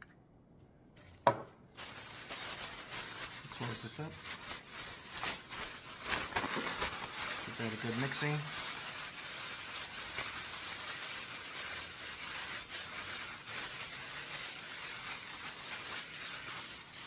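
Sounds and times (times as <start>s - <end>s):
plastic bag crinkling: 0.9s - 17.0s.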